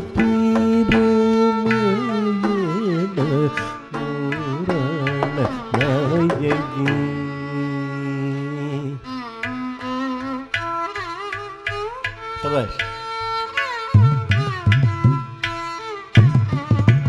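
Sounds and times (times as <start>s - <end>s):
ghatam clay pot percussion: 0.0s - 17.0s
mridangam drum strokes: 0.0s - 17.0s
violin melody with sliding notes: 0.0s - 17.0s.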